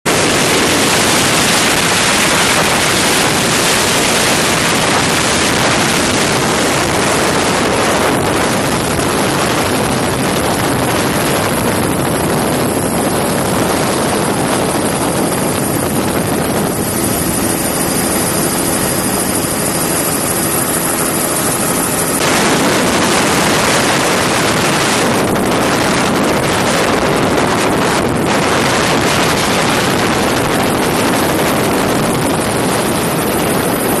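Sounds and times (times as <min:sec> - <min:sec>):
helicopter engine and rotor noise: 0:00.0 - 0:34.0.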